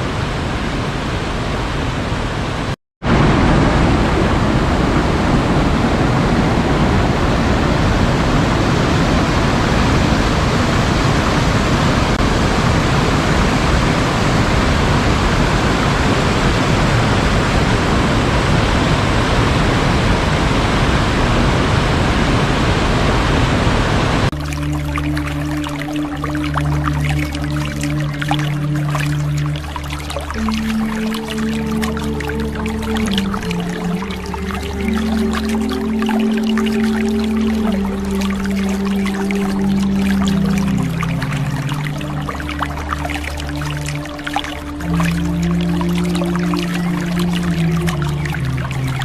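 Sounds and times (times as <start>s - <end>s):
sea waves washing: 0.0s - 49.0s.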